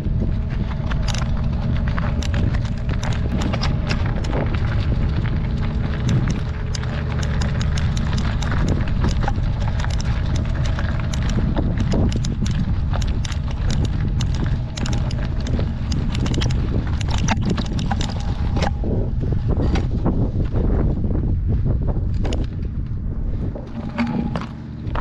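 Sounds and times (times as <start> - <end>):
bike tyres crunching on gravel: 0.0 - 21.7
wind on microphone: 0.0 - 25.0.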